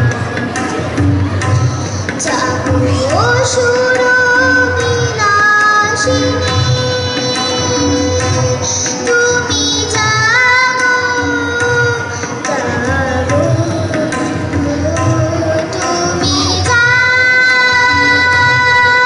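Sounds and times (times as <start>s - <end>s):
tabla rhythm: 0.0s - 19.0s
girl singing: 1.6s - 19.0s.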